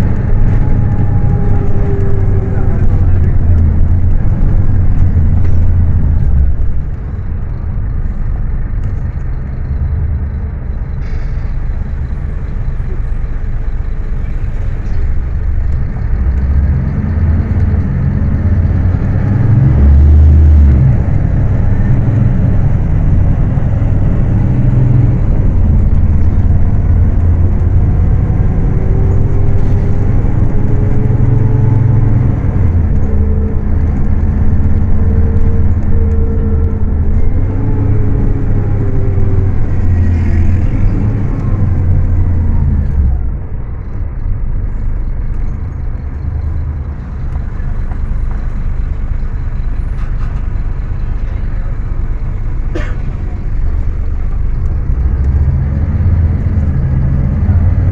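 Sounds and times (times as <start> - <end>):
bus diesel engine droning: 0.0 - 57.9.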